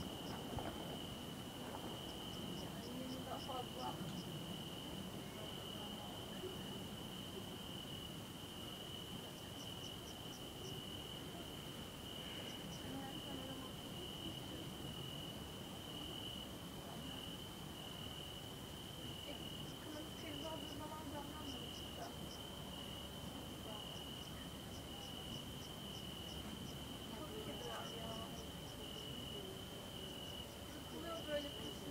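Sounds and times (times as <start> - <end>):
crickets chirping: 0.0 - 31.9.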